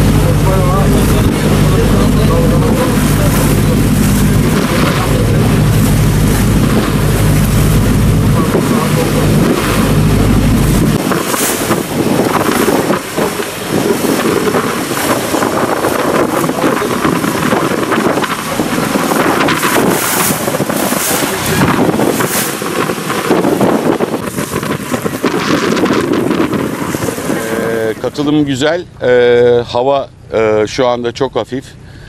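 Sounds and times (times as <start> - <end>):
wind buffeting the microphone: 0.0 - 29.6
water washing around a boat: 0.0 - 30.8.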